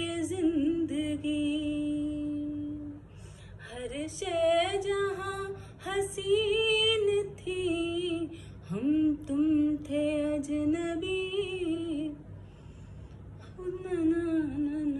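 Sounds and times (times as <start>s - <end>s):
woman singing unaccompanied: 0.0s - 12.2s, 13.4s - 14.9s.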